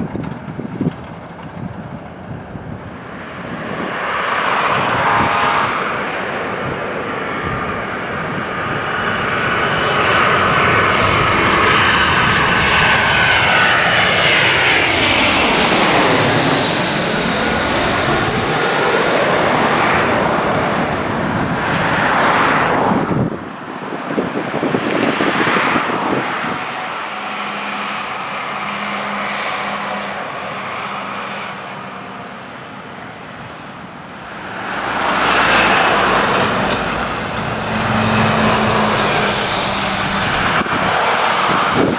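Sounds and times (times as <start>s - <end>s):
jet engines passing close: 0.0s - 41.9s.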